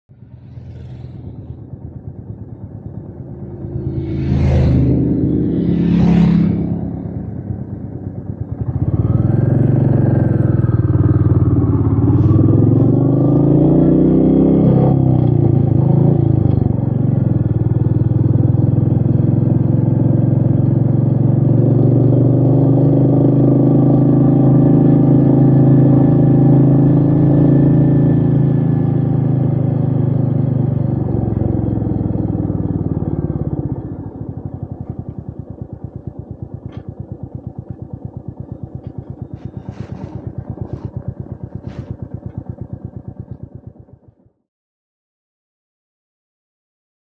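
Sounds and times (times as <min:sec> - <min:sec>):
motorcycle engine revving: 0:00.1 - 0:44.4.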